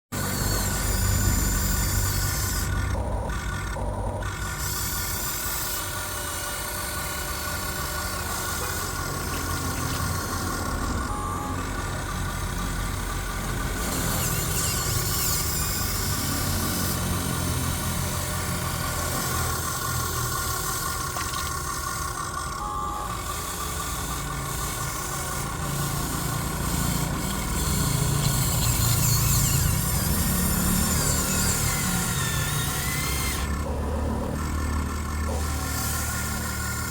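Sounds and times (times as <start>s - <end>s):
electric motors whining: 0.2s - 36.9s.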